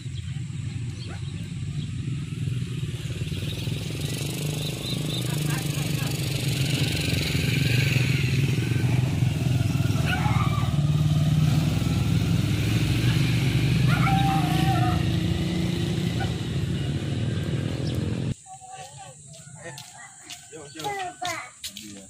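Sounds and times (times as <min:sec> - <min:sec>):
small motorcycle engine passing: 0:00.0 - 0:18.4.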